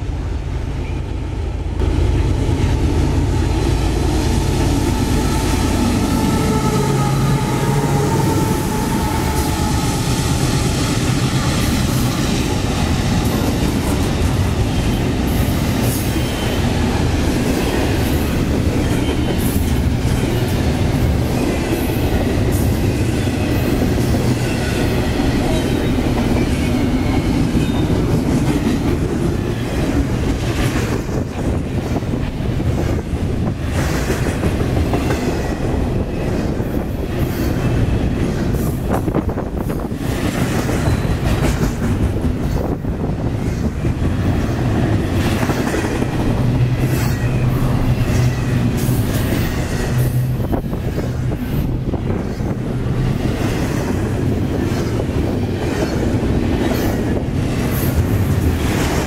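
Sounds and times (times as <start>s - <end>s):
train wheels rumbling and clacking: 0.0s - 59.0s.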